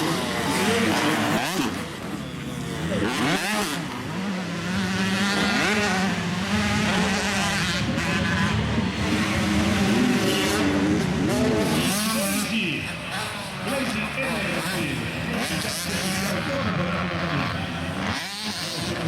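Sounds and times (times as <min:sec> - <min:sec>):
two-stroke motocross bikes revving: 0:00.0 - 0:19.0.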